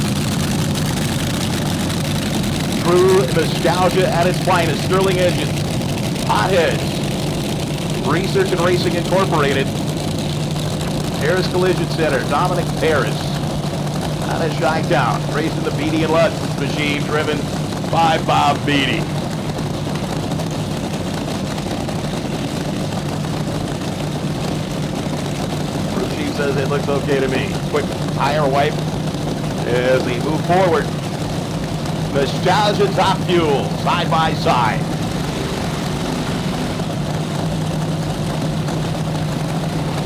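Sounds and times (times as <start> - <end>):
dragster engines idling: 0.0 - 40.0.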